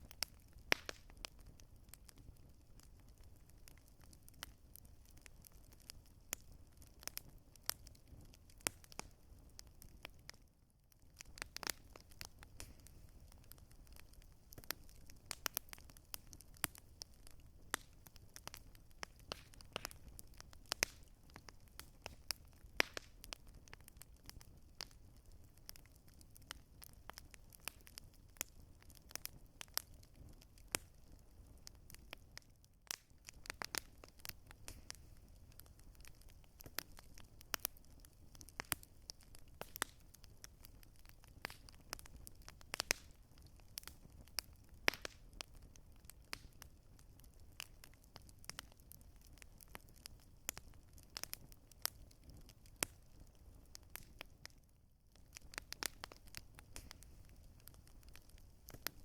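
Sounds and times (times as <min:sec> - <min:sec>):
burning wood popping and snapping: 0:00.0 - 0:59.0.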